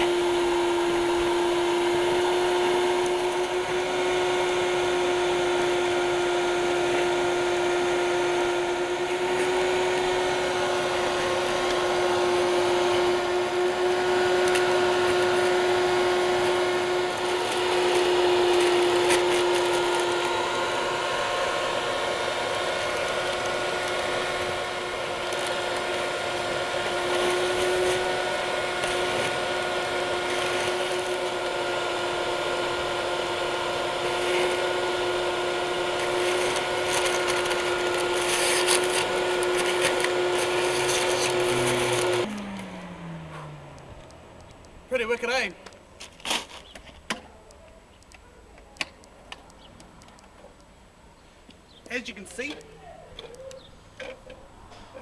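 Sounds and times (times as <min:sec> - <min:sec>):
vacuum cleaner motor whine: 0:00.0 - 0:44.6.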